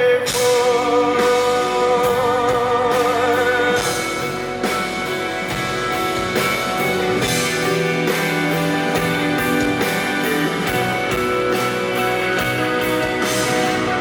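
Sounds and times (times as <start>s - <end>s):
drums: 0.0s - 14.0s
guitar chords: 0.0s - 14.0s.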